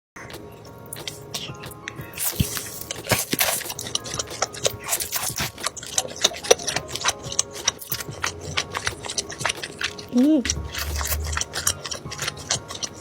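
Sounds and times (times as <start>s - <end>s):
crunching and chewing fried chicken: 0.2s - 13.0s.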